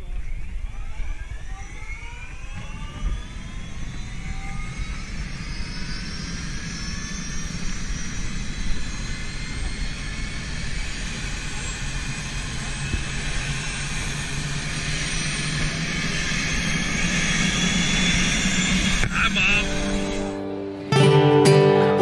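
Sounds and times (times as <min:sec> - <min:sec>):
aircraft engine running: 0:00.0 - 0:22.0.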